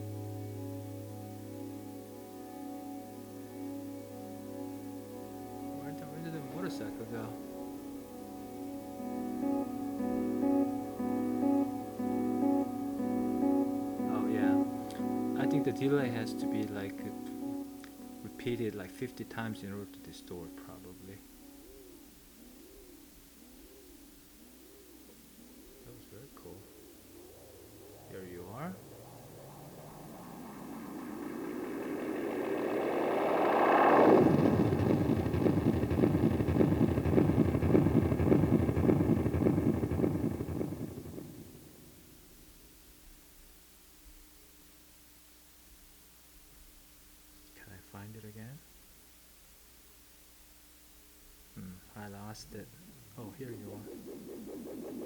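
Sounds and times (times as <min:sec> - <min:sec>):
guitar delay drone: 0:00.0 - 0:23.9, 0:24.6 - 0:42.1, 0:52.0 - 0:55.0.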